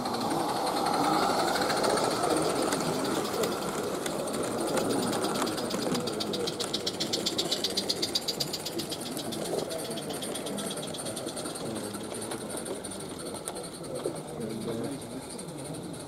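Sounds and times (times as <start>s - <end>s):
model train wheels clattering: 0.0s - 16.0s.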